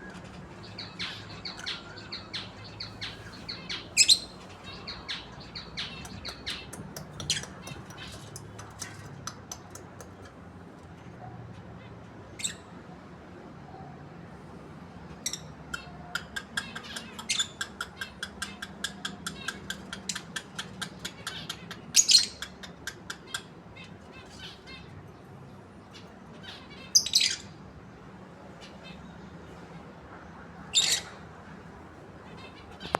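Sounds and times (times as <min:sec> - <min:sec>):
birds chirping: 0:00.0 - 0:10.9, 0:15.0 - 0:32.9.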